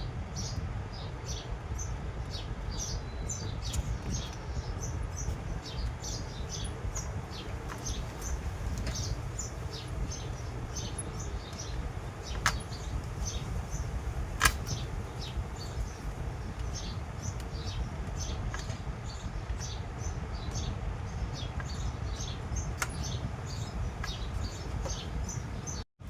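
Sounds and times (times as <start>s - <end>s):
steady low rumble: 0.0s - 25.8s
small birds chirping: 0.0s - 25.9s.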